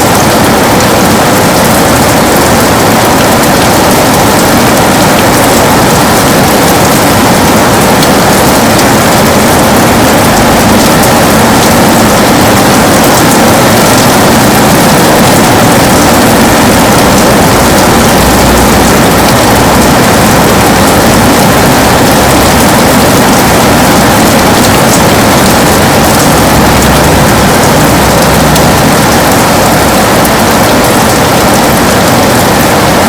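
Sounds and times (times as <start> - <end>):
heavy rain on window: 0.0 - 33.0.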